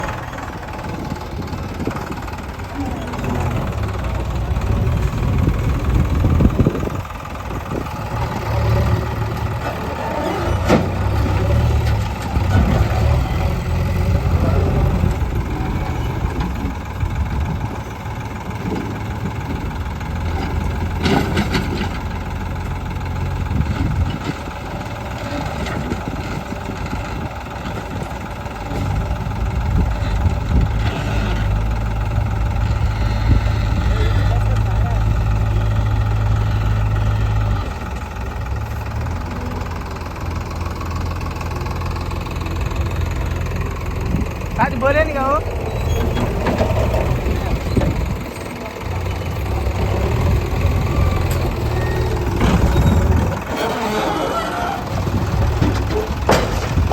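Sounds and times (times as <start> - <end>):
diesel engine running under load: 0.0 - 56.9.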